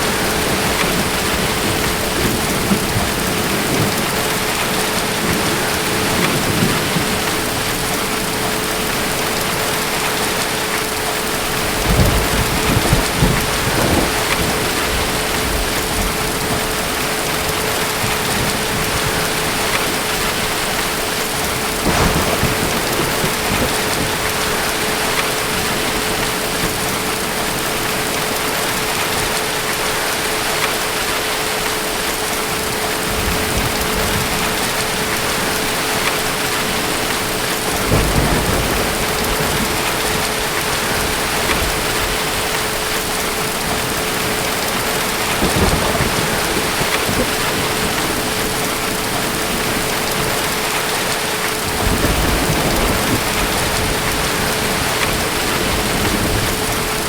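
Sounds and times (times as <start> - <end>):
thunder rumbling: 0.0 - 30.9, 31.6 - 57.0
heavy rain falling: 0.0 - 57.0.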